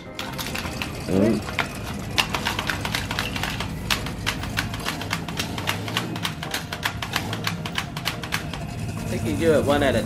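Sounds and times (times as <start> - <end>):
plastic toy clicking and clattering: 0.0 - 8.8.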